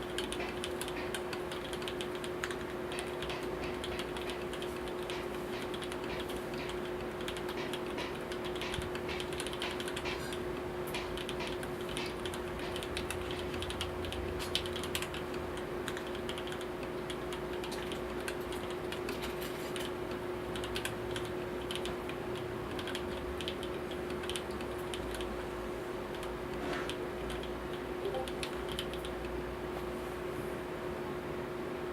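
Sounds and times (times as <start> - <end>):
mechanical keyboard typing: 0.0 - 25.4, 26.1 - 29.4.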